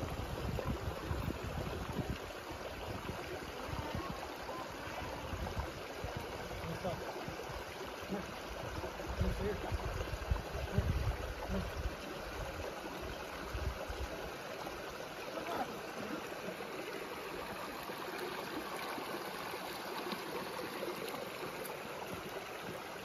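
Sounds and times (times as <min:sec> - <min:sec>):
stream water rushing: 0:00.0 - 0:23.0.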